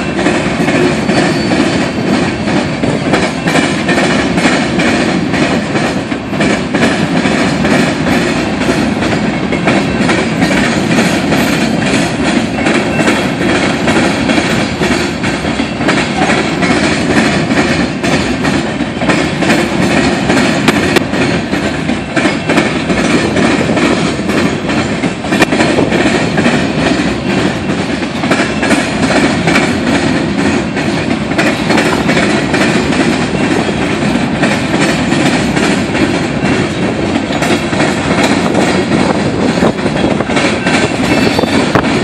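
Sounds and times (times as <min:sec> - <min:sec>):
freight train wheels rumbling on rails: 0:00.0 - 0:42.0
wheels clacking over rail joints: 0:00.0 - 0:42.0.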